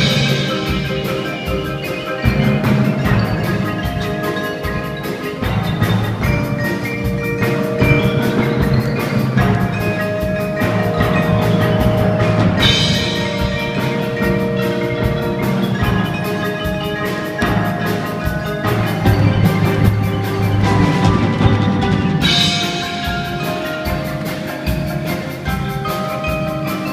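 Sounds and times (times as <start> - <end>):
drums: 0.0 - 26.9
marimba melody: 0.0 - 26.9.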